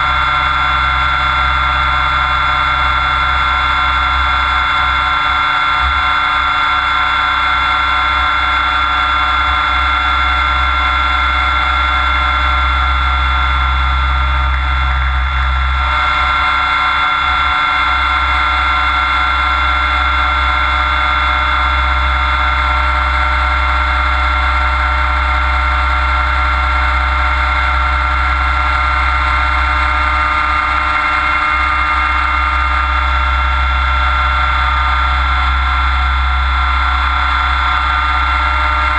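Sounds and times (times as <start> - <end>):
high-pitched motor whine: 0.0 - 38.9
rotor drone: 0.0 - 38.9.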